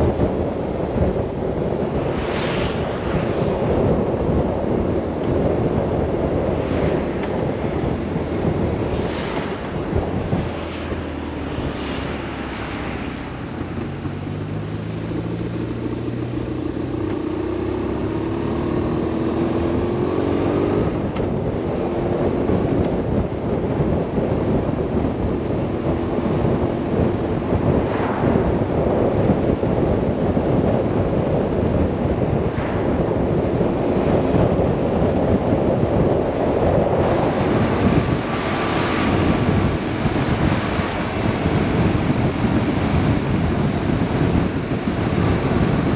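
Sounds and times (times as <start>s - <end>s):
wind rushing over microphone: 0.0s - 45.9s
motorcycle engine accelerating: 0.2s - 45.9s.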